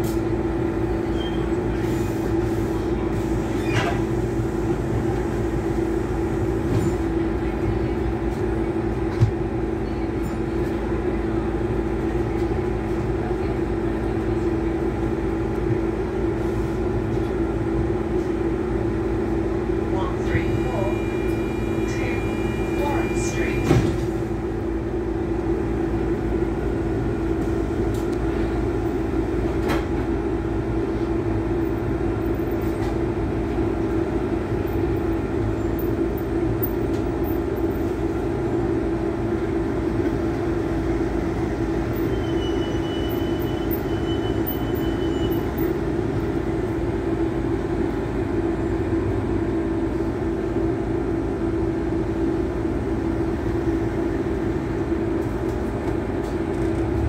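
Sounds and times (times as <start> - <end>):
bus engine hum and rumble: 0.0 - 57.0.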